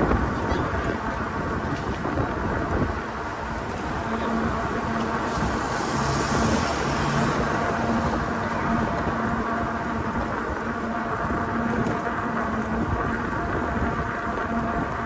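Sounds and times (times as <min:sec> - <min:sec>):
road traffic passing: 0:00.0 - 0:15.0
wind on microphone: 0:00.0 - 0:15.0.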